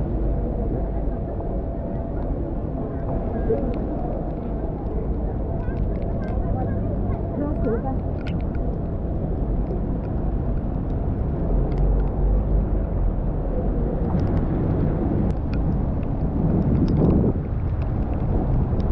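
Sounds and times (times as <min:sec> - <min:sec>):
traffic on a wet street: 0:00.0 - 0:18.9.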